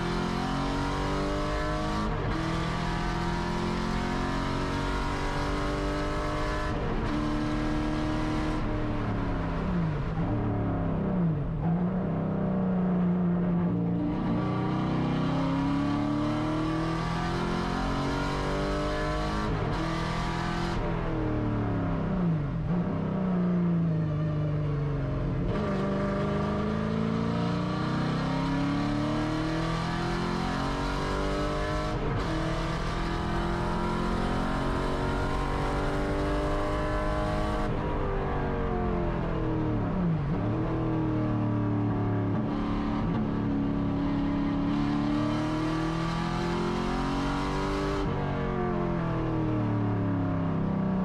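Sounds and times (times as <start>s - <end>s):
race car engine revving: 0.0s - 11.9s, 13.5s - 22.8s, 25.4s - 41.2s, 42.1s - 49.2s.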